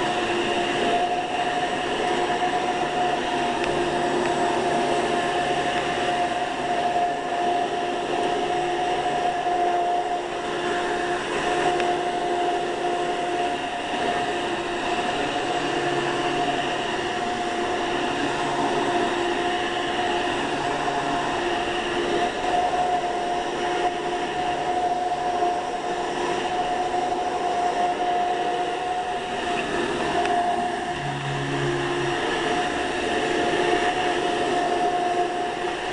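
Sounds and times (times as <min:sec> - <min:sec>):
upright vacuum cleaner running: 0:00.0 - 0:35.9.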